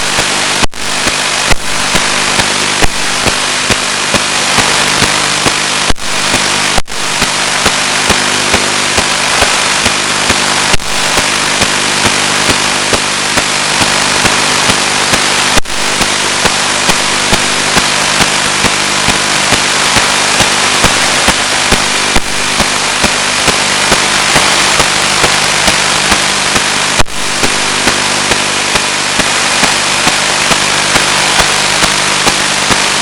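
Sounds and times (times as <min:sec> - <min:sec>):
clicks: 0:00.0 - 0:33.0
static hiss: 0:00.0 - 0:33.0.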